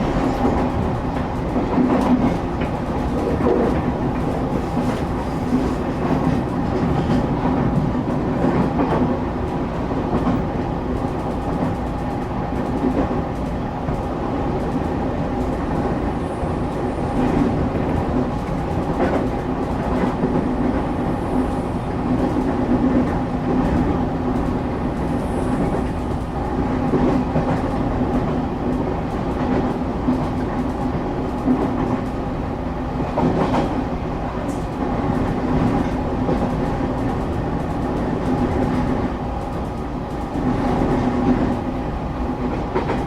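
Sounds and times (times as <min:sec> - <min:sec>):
rail clicks: 0:00.0 - 0:43.0
train wheels rumbling on track: 0:00.0 - 0:43.0.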